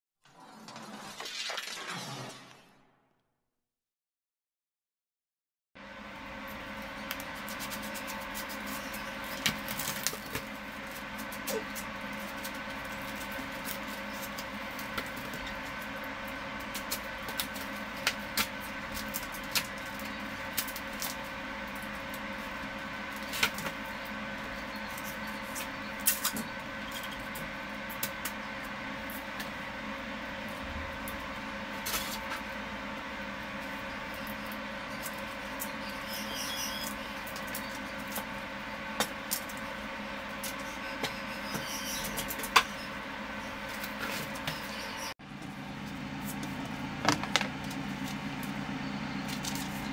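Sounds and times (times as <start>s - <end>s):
mechanical hum: 0.2s - 3.1s, 5.8s - 49.9s.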